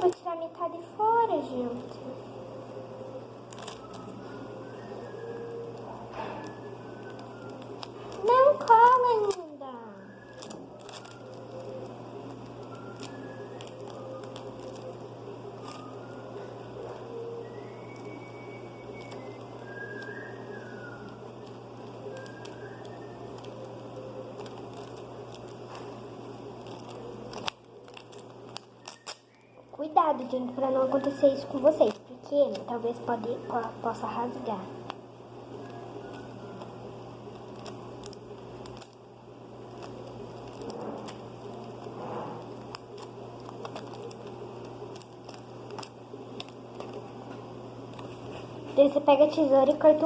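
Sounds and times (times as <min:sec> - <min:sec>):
low hum: 0:00.0 - 0:49.5
paper and tape rustling: 0:03.5 - 0:04.9, 0:05.7 - 0:18.3, 0:18.9 - 0:34.3, 0:35.6 - 0:39.0, 0:39.7 - 0:50.0.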